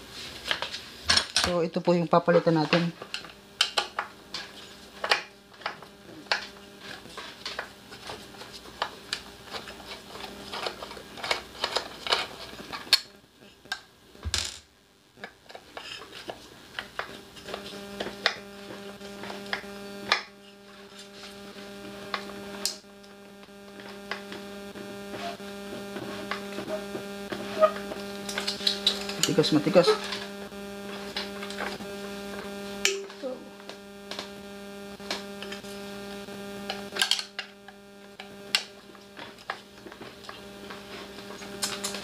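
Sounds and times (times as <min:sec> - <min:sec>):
electrical hum: 0:00.0 - 0:42.0.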